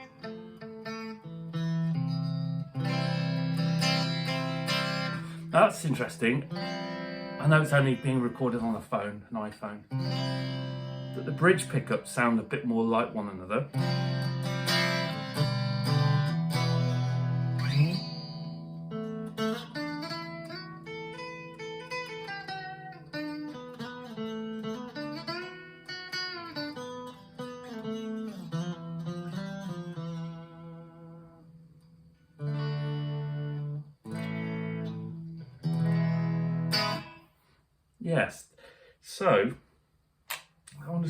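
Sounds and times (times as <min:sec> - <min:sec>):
clean electric guitar: 0:00.0 - 0:37.2.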